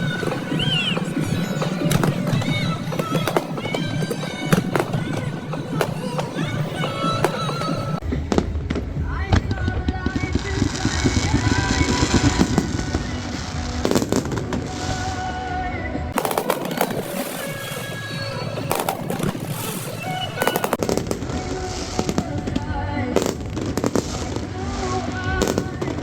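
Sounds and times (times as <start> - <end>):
fireworks banging and crackling: 0.0 - 26.0
music playing: 0.0 - 26.0.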